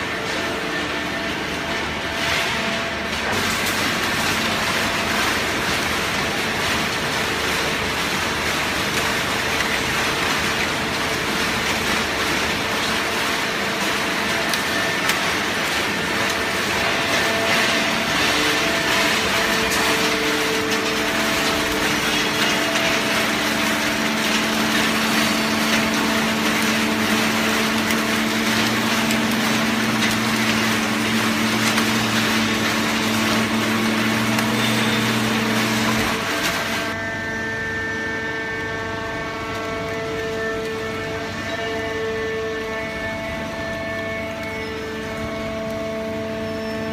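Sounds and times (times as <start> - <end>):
hydraulic baler running: 0.0 - 46.9
machine hum: 0.0 - 46.9.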